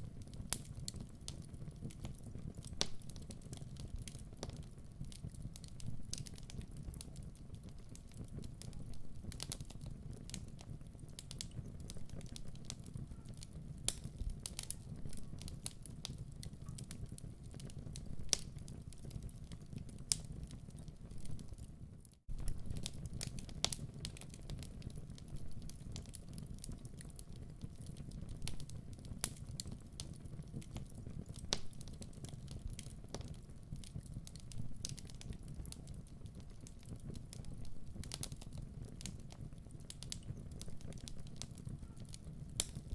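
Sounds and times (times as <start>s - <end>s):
fireplace fire crackling: 0.0s - 42.9s.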